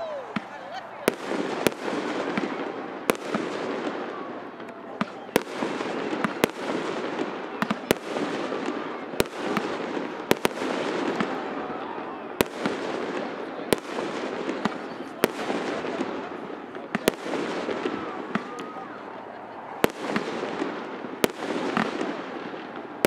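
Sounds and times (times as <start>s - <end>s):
continuous din: 0.0s - 23.0s
fireworks bangs: 0.0s - 23.0s.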